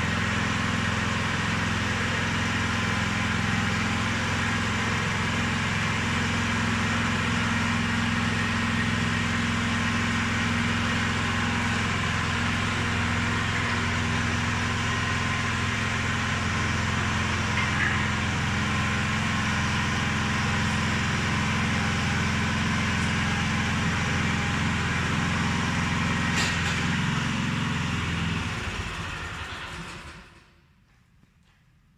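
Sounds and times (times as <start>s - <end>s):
concrete mixer engine running: 0.0s - 30.5s.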